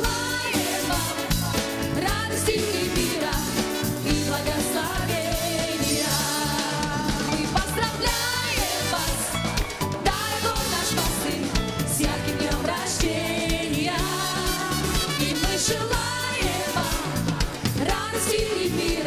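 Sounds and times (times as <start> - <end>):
drum kit beat: 0.0 - 19.0
group singing worship song: 0.0 - 19.0.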